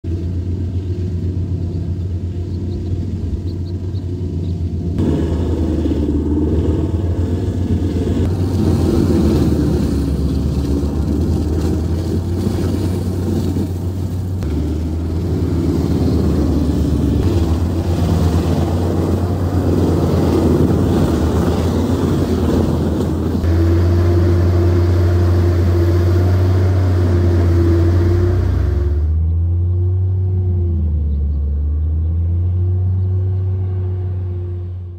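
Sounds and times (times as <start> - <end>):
heavy engine drone: 0.0 - 34.9
mulcher grinding trees: 0.1 - 34.4.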